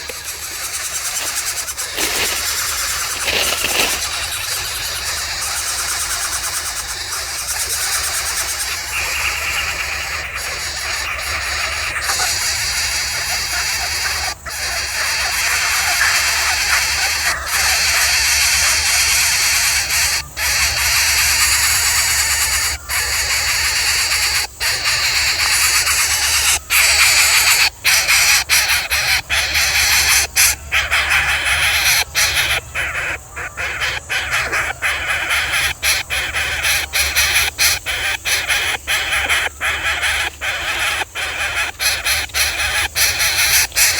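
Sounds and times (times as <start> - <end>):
loud harsh bird calling: 0.0 - 43.9.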